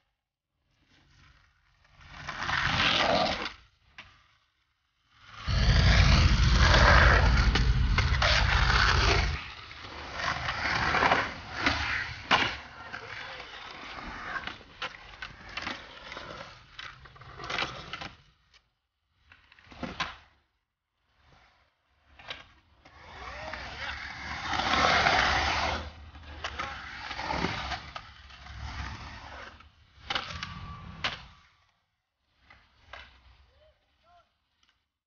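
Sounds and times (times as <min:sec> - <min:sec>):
skateboard wheels rolling: 0:00.7 - 0:34.8.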